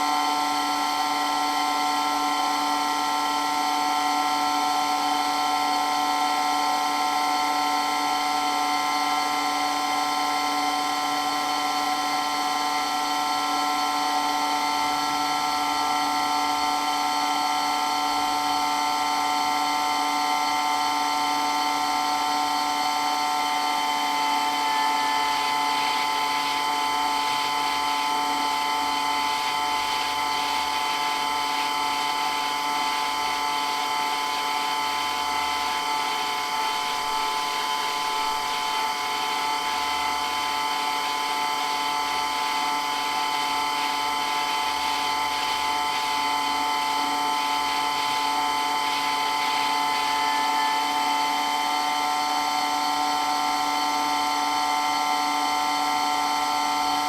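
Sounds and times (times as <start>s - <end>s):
water pump whining: 0.0s - 57.0s.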